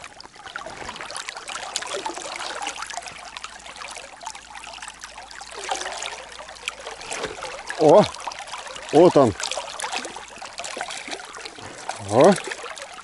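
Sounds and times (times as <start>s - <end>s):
river water trickling and lapping: 0.0s - 13.0s
small water splashes: 0.0s - 13.0s.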